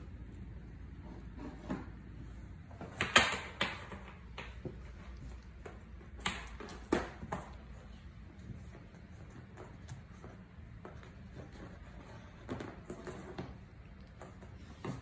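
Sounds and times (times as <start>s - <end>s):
kittens scuffling on hard floor: 0.0s - 15.0s.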